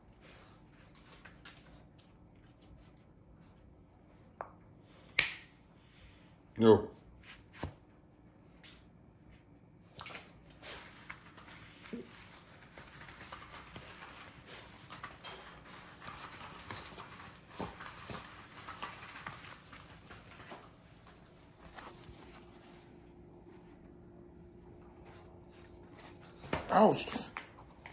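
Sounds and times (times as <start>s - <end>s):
puppy paws pattering: 0.2s - 4.5s, 8.6s - 27.9s.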